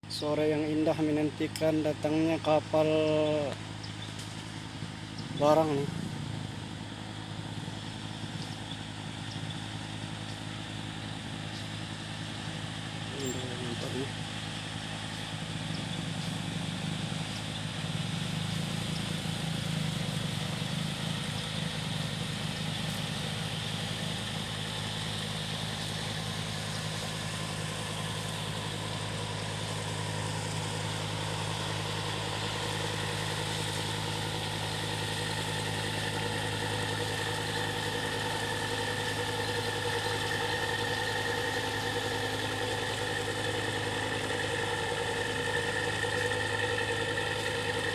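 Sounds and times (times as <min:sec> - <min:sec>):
ship engine droning: 0:00.0 - 0:47.9.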